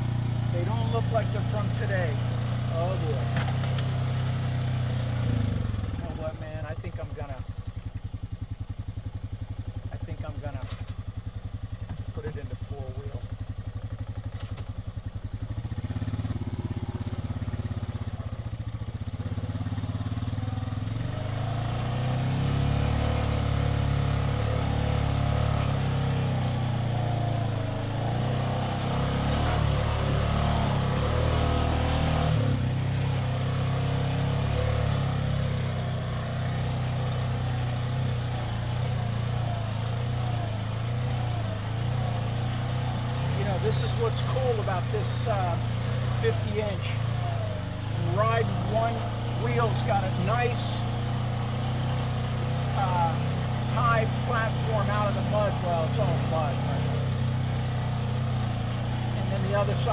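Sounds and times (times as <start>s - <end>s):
utility vehicle engine revving: 0.0s - 59.9s.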